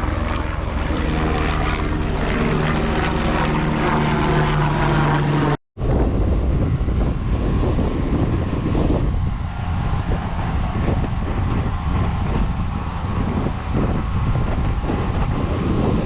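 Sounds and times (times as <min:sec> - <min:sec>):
propeller engine droning: 0:00.0 - 0:16.0
rough noisy rumble: 0:00.0 - 0:16.0.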